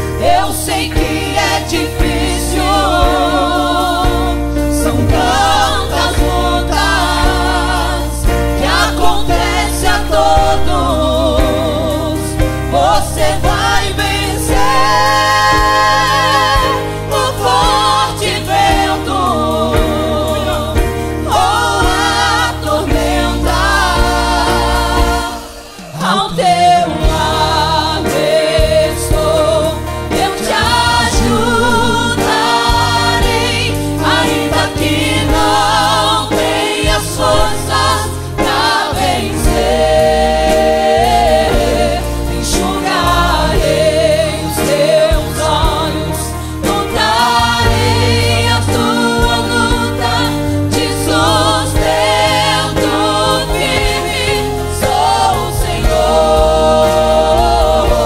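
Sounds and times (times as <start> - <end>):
double bass: 0.0 - 25.5, 26.5 - 58.0
acoustic guitar: 0.0 - 58.0
keyboard: 0.0 - 58.0
vocal group singing gospel: 0.0 - 58.0.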